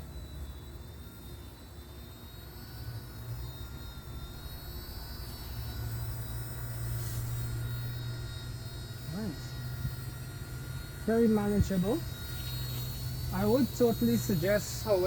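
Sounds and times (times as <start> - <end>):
electric motor whine: 0.0 - 15.0
rotor drone: 0.0 - 15.0.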